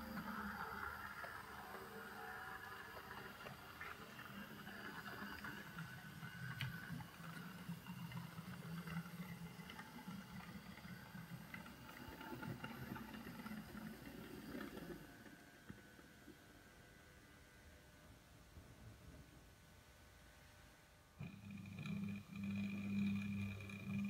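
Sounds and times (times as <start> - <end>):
faint model train motor hum: 0.0 - 17.6, 21.2 - 24.0.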